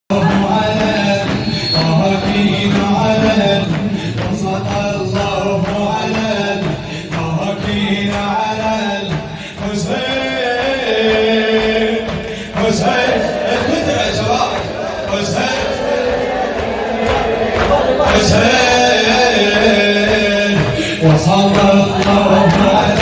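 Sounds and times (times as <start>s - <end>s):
low vocal drone: 0.1s - 23.0s
men chanting a lament: 0.1s - 23.0s
steady beat: 0.1s - 23.0s.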